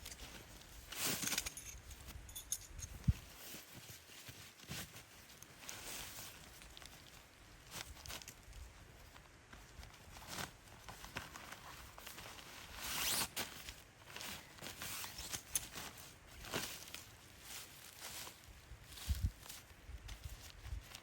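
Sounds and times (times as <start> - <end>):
camp gear rustling and clicking: 0.0 - 21.0.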